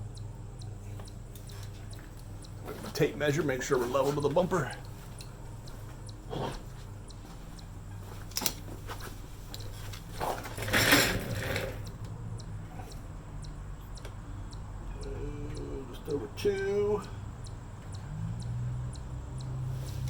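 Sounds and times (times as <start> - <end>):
low steady hum: 0.0 - 18.5.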